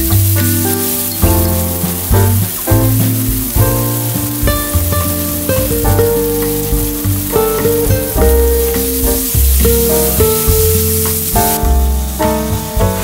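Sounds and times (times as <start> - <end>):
background music: 0.0 - 13.0
garlic sizzling in oil: 0.0 - 13.0.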